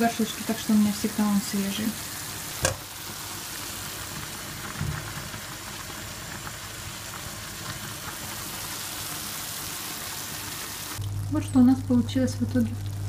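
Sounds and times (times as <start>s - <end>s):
meat frying in a wok: 0.0s - 13.0s
saucepan boiling hard: 0.0s - 13.0s.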